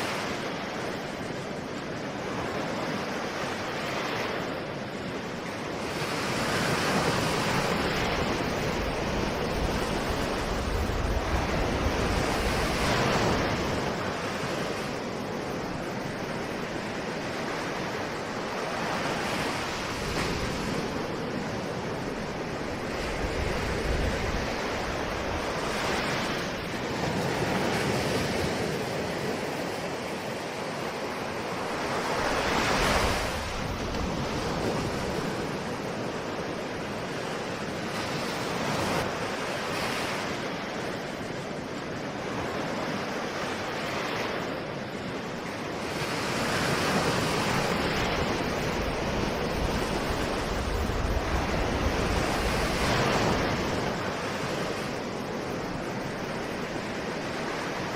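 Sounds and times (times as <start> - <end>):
ocean waves breaking on shore: 0.0 - 57.9
wind: 0.0 - 57.9.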